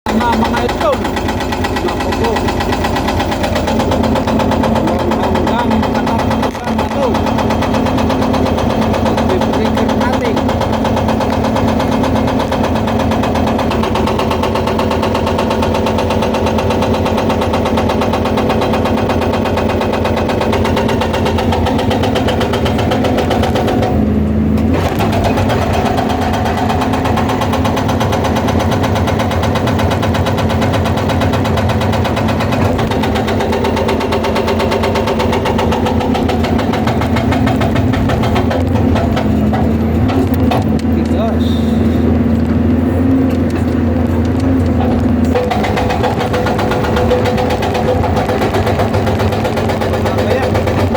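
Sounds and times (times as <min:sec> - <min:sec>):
diesel engine under load: 0:00.0 - 0:50.9
hydraulic breaker hammering stone: 0:00.1 - 0:50.9.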